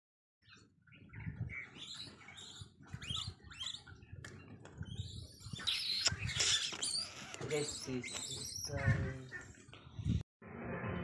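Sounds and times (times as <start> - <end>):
birds chirping: 0.4 - 10.2.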